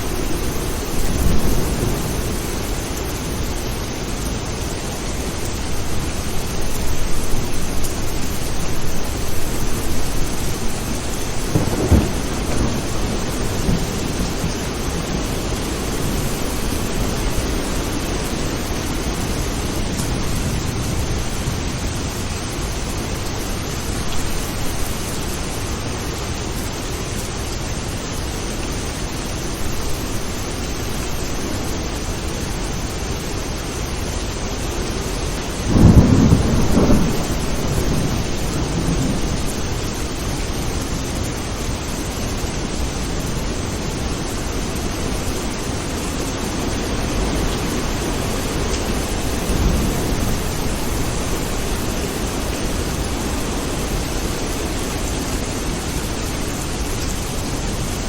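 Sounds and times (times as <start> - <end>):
thunder cracking and rumbling: 0.0 - 26.2, 35.5 - 55.8
steady rain falling: 0.0 - 58.0.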